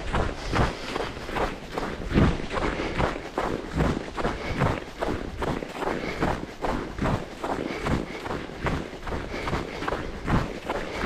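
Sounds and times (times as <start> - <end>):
running footsteps: 0.0 - 11.0.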